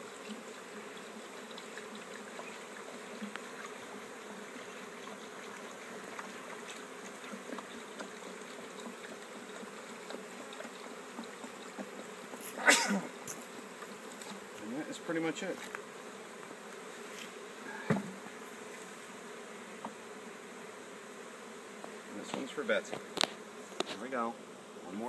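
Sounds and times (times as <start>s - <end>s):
honeybee swarm buzzing: 0.0s - 25.0s.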